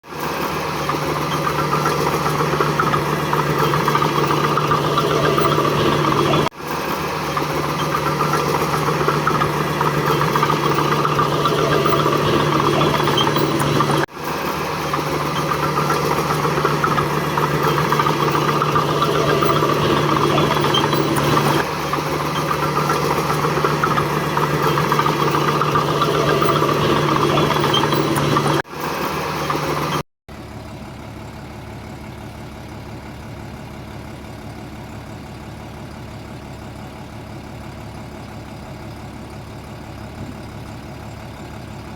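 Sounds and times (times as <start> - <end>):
diesel engine hum and clatter: 0.0 - 41.9.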